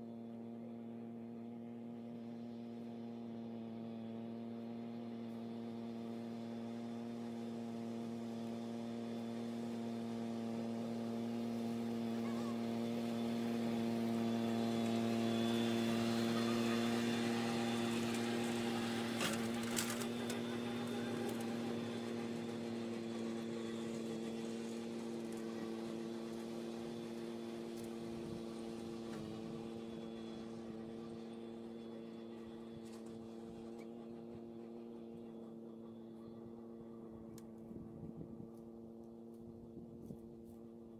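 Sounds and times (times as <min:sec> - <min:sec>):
engine humming: 0:04.6 - 0:40.4.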